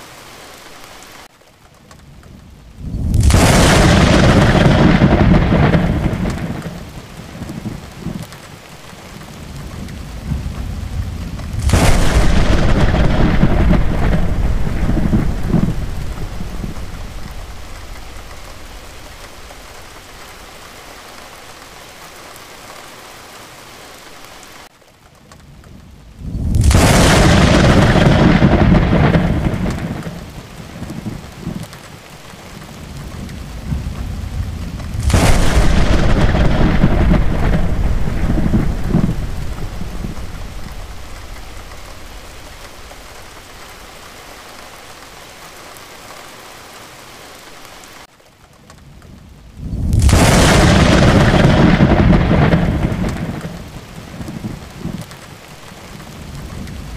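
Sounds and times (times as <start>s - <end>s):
steady rain: 0.0s - 56.9s
thunder rumbling: 2.1s - 21.6s, 25.5s - 45.2s, 48.8s - 56.9s.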